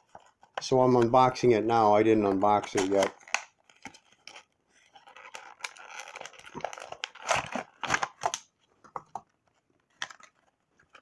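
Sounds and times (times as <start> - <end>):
cardboard and plastic crinkling: 0.0 - 11.0.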